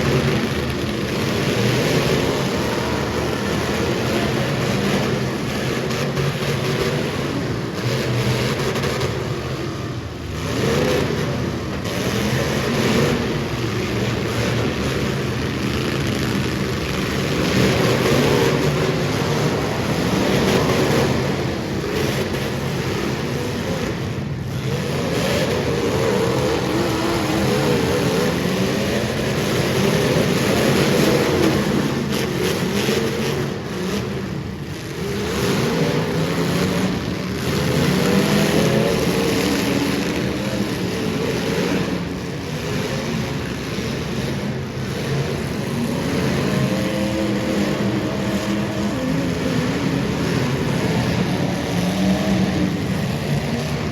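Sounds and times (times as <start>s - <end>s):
race car engines revving: 0.0s - 53.9s
steady rushing noise: 0.0s - 53.9s.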